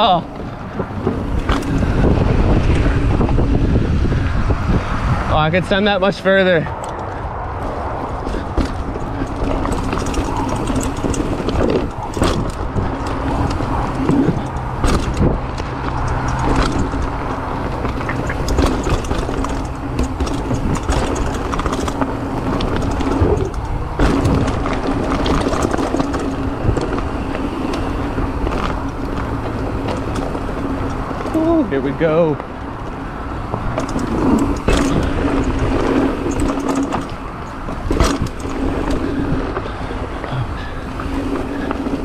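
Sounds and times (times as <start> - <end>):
bike knocking and rattling: 0.0 - 42.0
bike tyres crunching over stones: 0.0 - 42.0.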